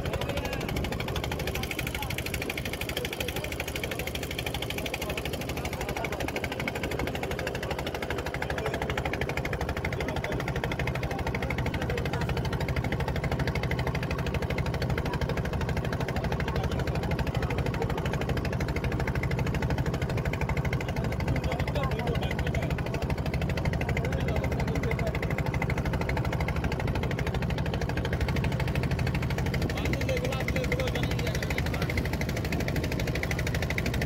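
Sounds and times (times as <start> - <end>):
boat engine chugging: 0.0 - 34.0.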